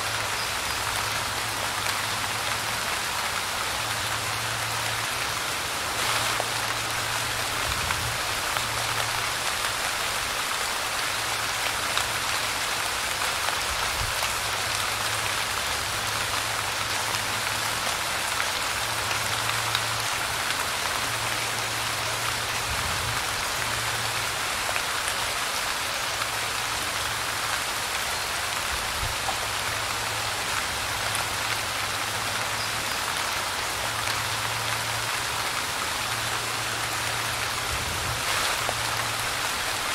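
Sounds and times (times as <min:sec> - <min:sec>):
light rain patter: 0:00.0 - 0:39.9.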